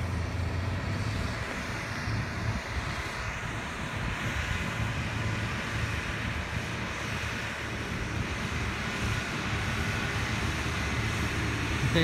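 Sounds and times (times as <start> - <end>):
distant tractor engine: 0.0 - 12.0
wind rumbling on microphone: 0.0 - 12.0.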